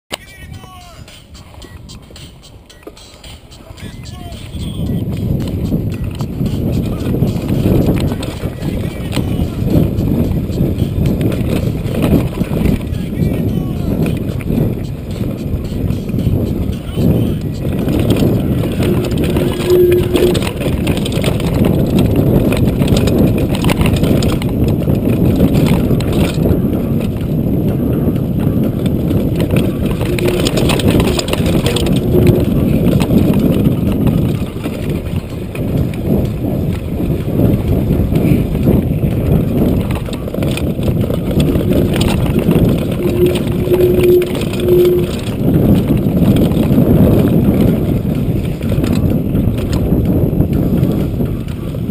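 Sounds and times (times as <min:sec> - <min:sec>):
bike tyres rattling over gravel: 0:03.6 - 0:51.9.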